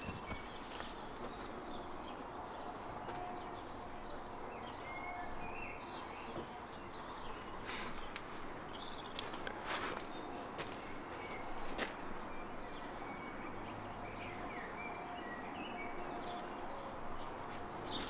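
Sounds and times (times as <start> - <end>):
distant small birds chirping: 0.0 - 16.5.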